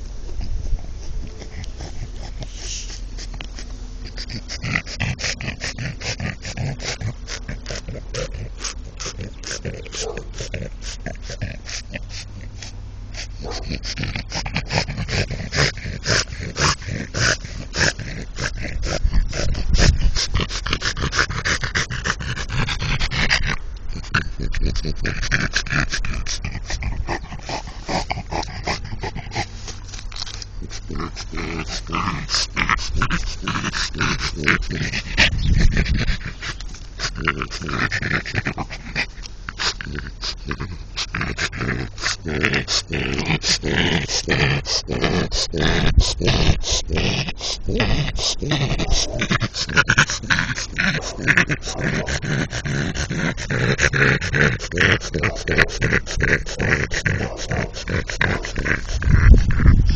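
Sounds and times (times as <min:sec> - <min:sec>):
dog snuffling and grunting: 0:00.0 - 0:59.9.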